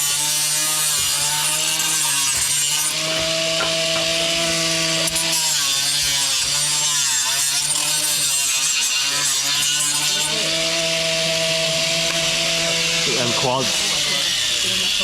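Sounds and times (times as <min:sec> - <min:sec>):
angle grinder cutting: 0:00.0 - 0:15.0.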